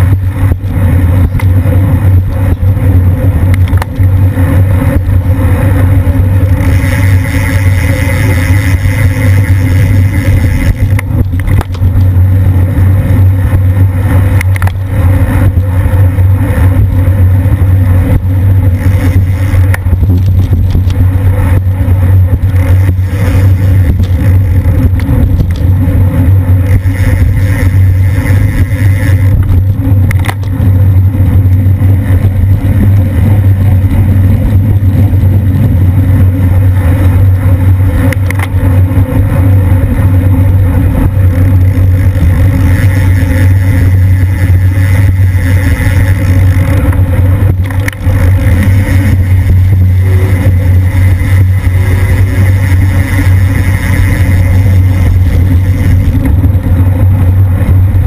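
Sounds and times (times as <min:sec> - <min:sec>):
bike clicks over road: 0:00.0 - 0:58.0
wind rushing over microphone: 0:00.0 - 0:58.0.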